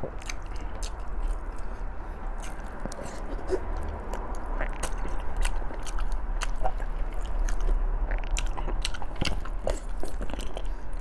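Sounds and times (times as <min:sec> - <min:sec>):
person biting and chewing: 0:00.0 - 0:11.0.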